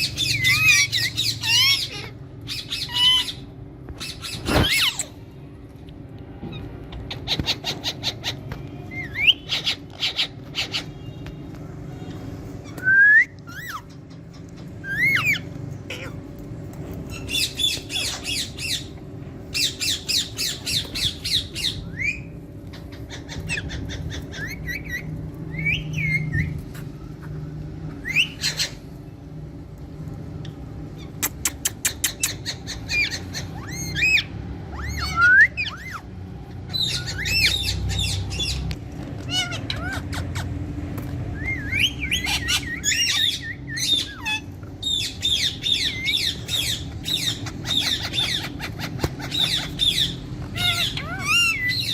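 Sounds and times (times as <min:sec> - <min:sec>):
parrots squawking: 0:00.0 - 0:05.3, 0:06.4 - 0:11.2, 0:12.0 - 0:16.4, 0:17.0 - 0:29.0, 0:30.9 - 0:51.9.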